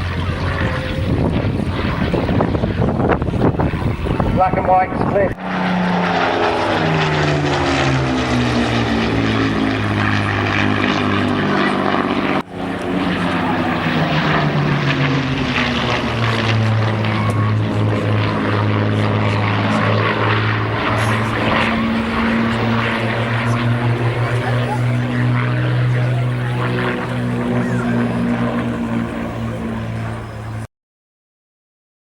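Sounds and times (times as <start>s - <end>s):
propeller aircraft engine passing: 0.0s - 30.7s.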